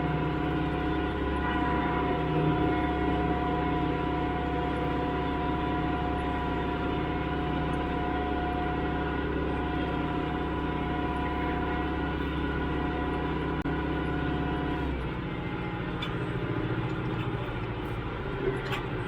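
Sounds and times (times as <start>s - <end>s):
mechanical whine: 0.0s - 19.0s
tractor engine droning: 0.0s - 19.0s.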